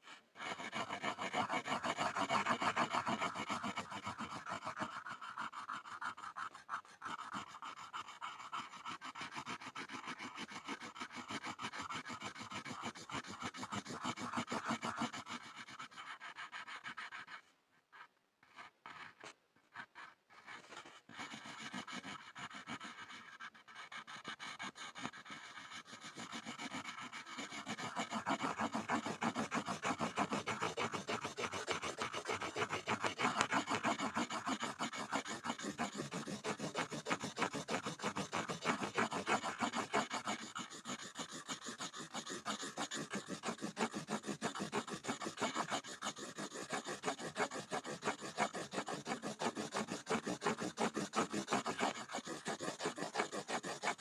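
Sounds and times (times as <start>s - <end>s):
pencil scribbling on a board: 0.4s - 54.0s.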